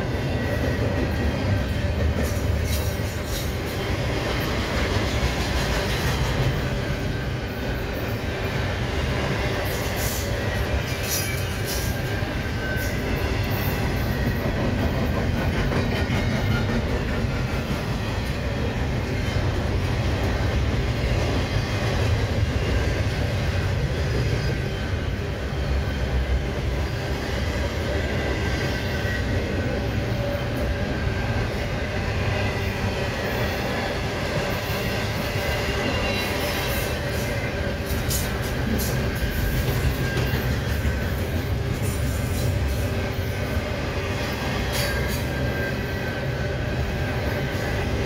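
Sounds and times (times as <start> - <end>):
steel wheels rumbling on rails: 0.0 - 48.0.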